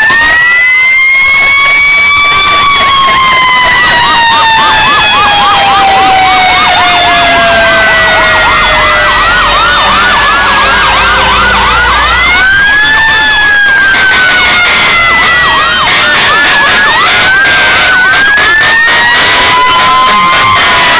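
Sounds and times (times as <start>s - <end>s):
fire engine siren wailing: 0.0s - 20.9s
fire engine siren yelping: 0.0s - 20.9s.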